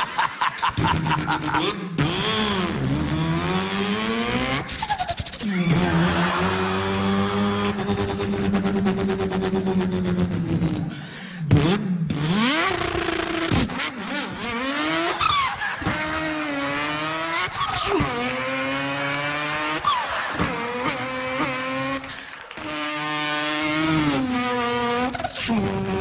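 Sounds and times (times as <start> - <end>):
man imitating racing car engine: 0.1 - 26.0.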